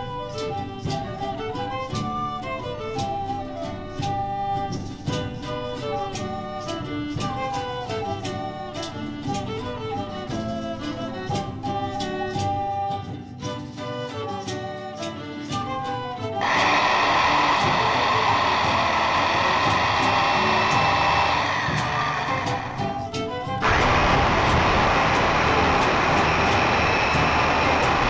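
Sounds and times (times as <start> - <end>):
background music with steady beat: 0.0 - 28.0.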